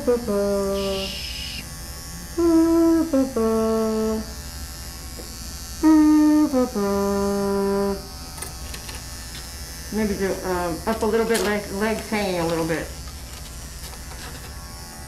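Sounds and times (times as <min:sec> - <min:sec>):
electric clipper humming: 0:00.0 - 0:15.0.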